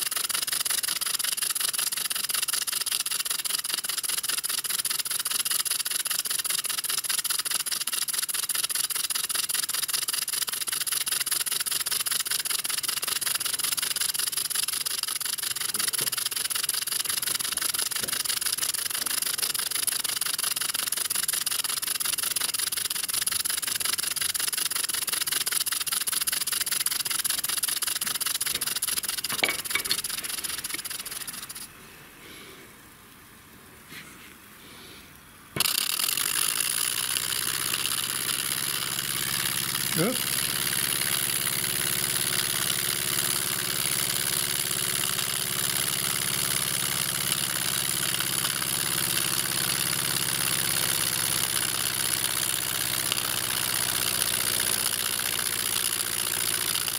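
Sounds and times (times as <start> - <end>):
model steam engine chuffing: 0.0 - 31.7, 35.6 - 56.9.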